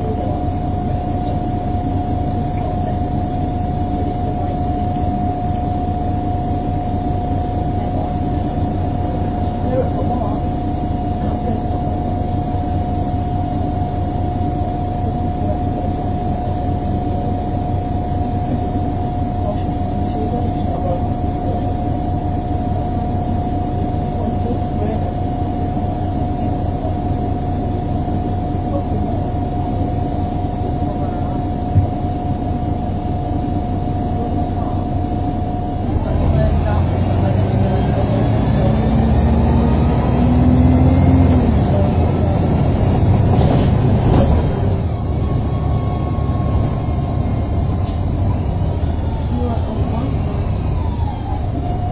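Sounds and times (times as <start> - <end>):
bus diesel engine idling: 0.0 - 51.9.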